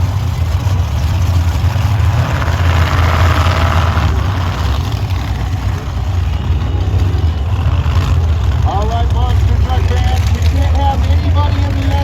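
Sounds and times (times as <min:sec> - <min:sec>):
truck engine running low: 0:00.0 - 0:12.0.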